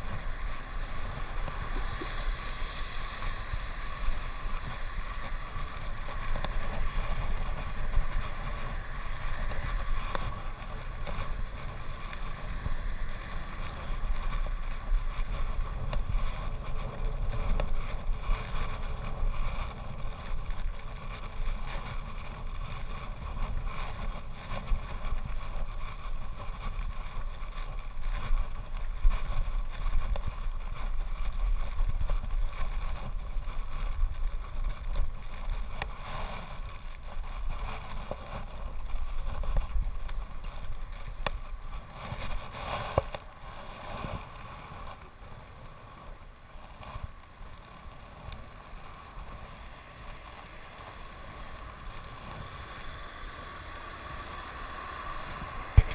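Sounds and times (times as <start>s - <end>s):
bicycle rolling on tarmac: 0.0s - 55.9s
wind rumbling on microphone: 0.0s - 55.9s.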